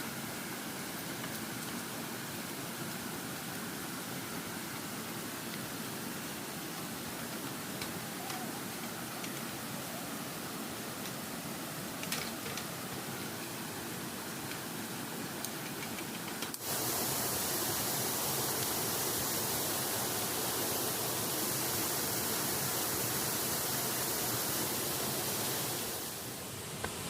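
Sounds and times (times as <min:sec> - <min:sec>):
river water rushing: 0:00.0 - 0:15.5, 0:16.6 - 0:27.0.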